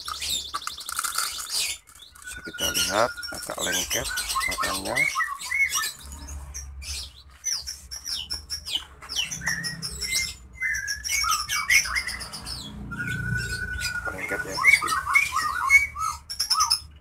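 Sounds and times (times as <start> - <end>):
songbirds chirping and singing: 0.0 - 17.0.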